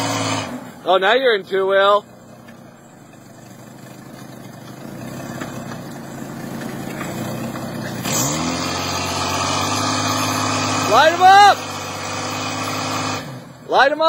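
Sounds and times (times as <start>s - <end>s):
engine running under load: 0.0s - 0.9s, 1.5s - 13.7s.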